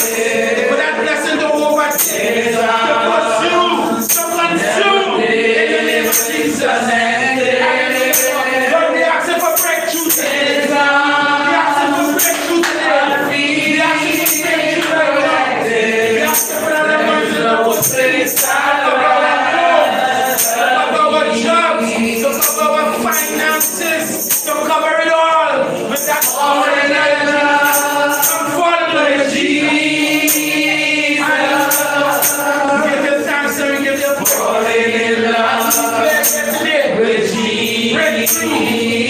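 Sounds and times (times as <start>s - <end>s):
jingling percussion hits: 0.0s - 4.9s, 5.5s - 6.8s, 7.6s - 24.9s, 25.8s - 39.0s.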